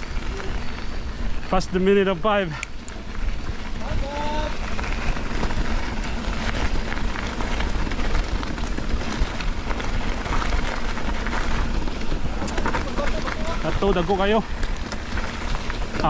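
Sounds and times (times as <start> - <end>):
bike tyres rolling on rough trail: 0.0 - 16.0.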